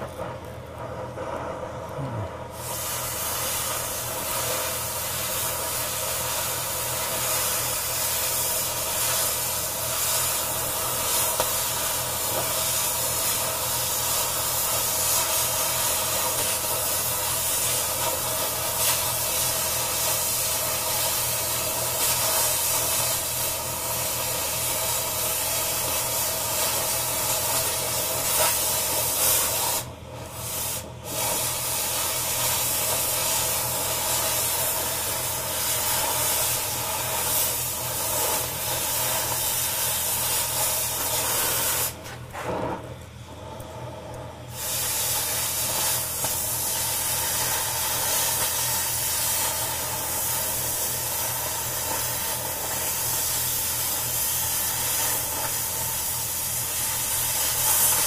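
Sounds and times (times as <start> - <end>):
cutting torch hissing: 1.4 - 42.8, 43.4 - 58.0.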